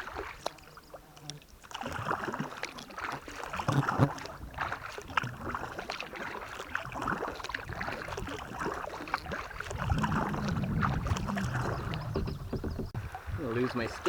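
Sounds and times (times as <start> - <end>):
paddle splashing water: 0.0 - 14.0.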